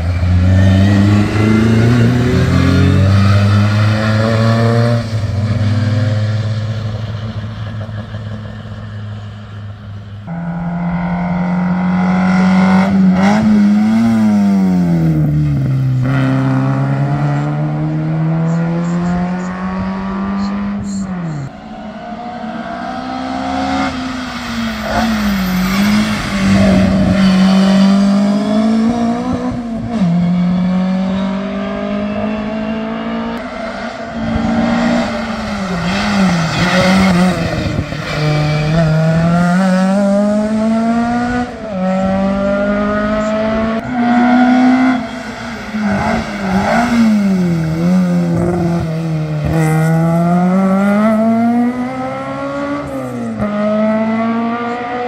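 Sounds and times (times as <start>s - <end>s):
racing car engine at full throttle: 0.0s - 55.0s.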